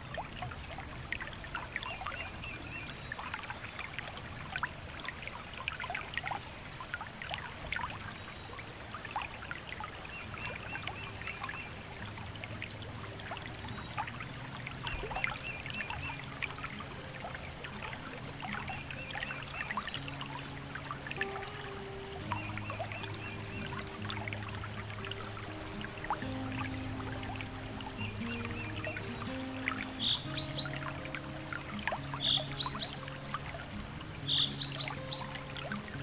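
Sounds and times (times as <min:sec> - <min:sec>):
soft sustained music notes: 0:00.0 - 0:36.0
water trickling and burbling: 0:00.0 - 0:36.0.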